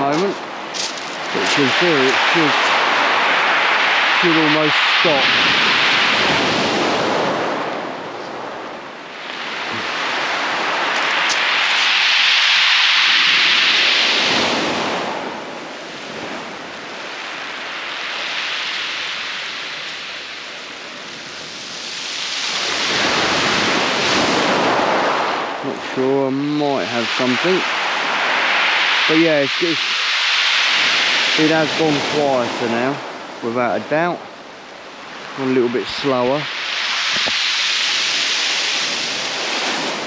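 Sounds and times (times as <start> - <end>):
waves breaking on shingle beach: 0.0 - 40.0.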